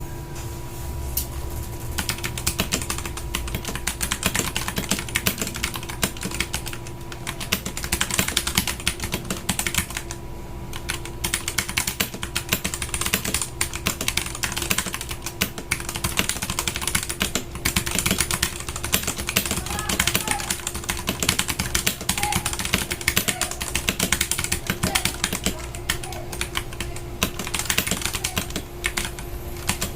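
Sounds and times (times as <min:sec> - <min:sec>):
mechanical keyboard typing: 0:01.9 - 0:29.9.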